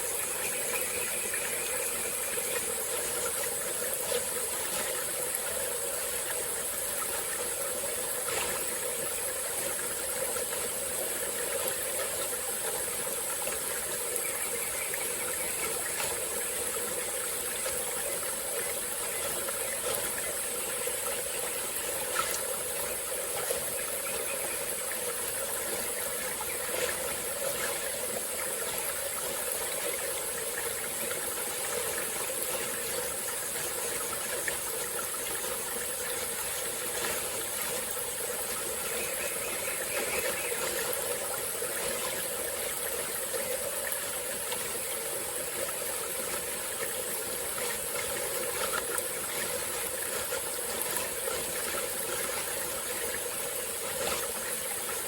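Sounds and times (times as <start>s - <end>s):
insects hissing: 0.0s - 55.0s
stream flowing: 0.0s - 55.0s.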